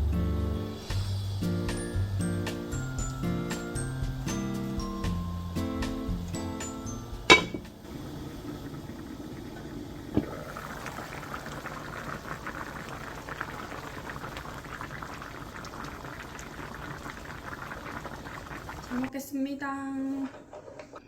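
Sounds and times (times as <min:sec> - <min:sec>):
pot bubbling at a boil: 0:01.0 - 0:06.4, 0:07.2 - 0:19.2.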